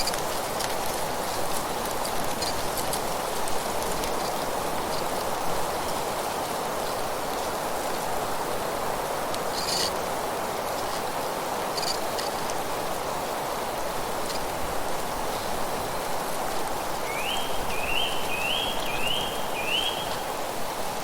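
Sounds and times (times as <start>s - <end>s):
wind rustling foliage: 0.0s - 21.0s.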